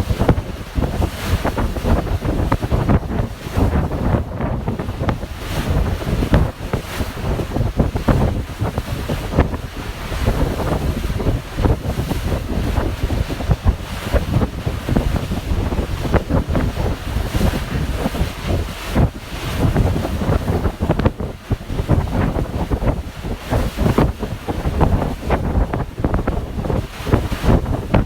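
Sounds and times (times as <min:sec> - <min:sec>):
water rushing and boat noise: 0:00.0 - 0:28.0
wind gusting on microphone: 0:00.0 - 0:28.0.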